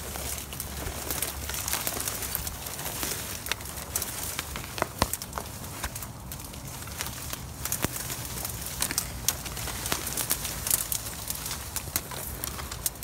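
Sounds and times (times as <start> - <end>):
dry reeds rustling and snapping: 0.0 - 13.0.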